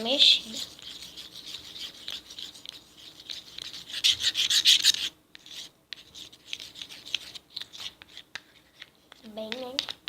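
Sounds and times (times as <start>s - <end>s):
utensil scraping container: 0.0s - 10.0s.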